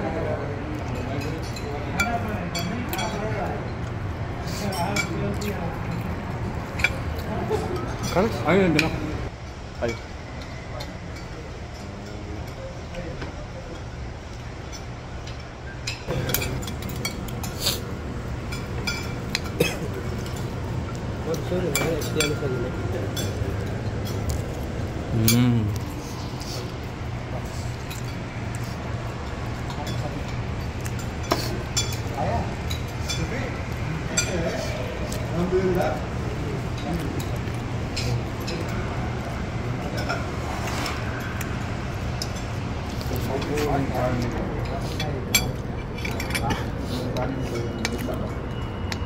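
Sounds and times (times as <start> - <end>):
restaurant background hum: 0.0 - 49.0
metal spoons clinking on plates: 0.7 - 9.1, 9.8 - 24.6, 27.4 - 49.0.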